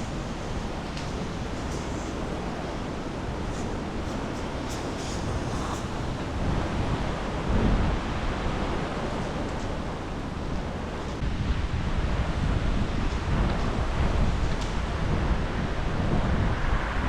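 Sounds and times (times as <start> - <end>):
wind gusting against microphone: 0.0 - 17.0.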